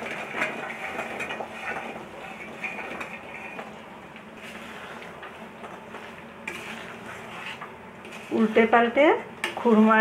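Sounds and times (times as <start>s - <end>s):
syrup bubbling in a pan: 0.0s - 9.5s
spatula scraping a pan: 0.0s - 10.0s.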